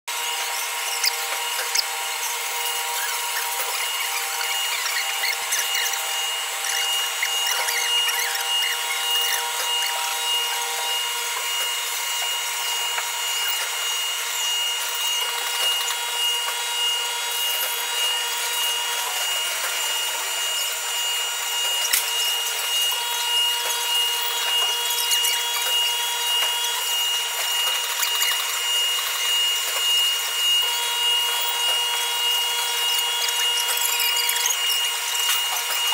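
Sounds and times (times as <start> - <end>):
milling spindle high whine: 0.1 - 35.9
scratchy metal cutting noise: 0.1 - 35.9.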